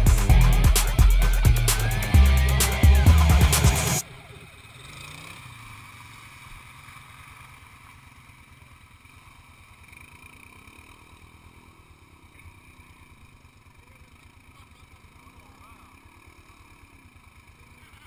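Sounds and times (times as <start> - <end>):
atv engine idling: 0.0 - 18.0
distant four-wheeler engine driving: 0.0 - 18.0.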